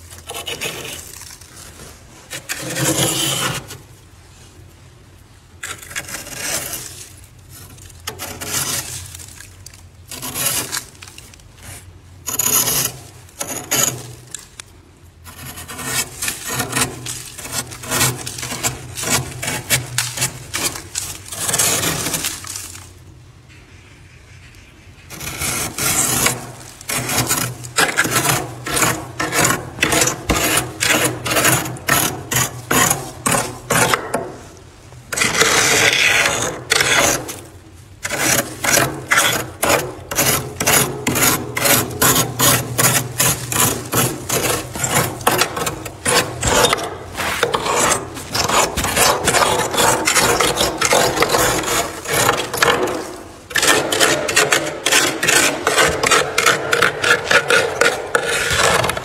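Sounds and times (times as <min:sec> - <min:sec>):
frost being scraped off walls: 0:00.0 - 0:04.0, 0:05.6 - 0:14.6, 0:15.2 - 0:23.0, 0:25.1 - 0:59.0.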